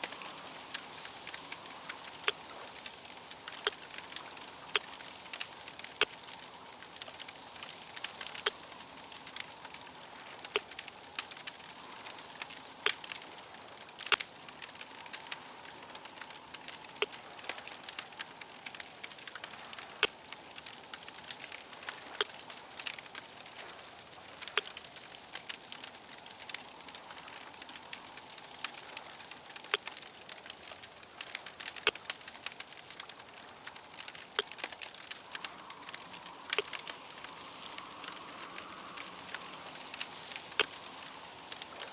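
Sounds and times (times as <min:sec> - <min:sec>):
fire hissing: 0:00.0 - 0:41.9
sharp pops and snaps: 0:00.0 - 0:41.9
wood fire crackling: 0:00.0 - 0:41.9.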